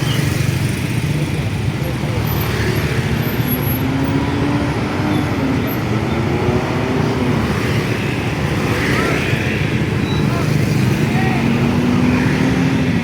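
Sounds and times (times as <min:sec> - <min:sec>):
roadside traffic: 0:00.0 - 0:13.0.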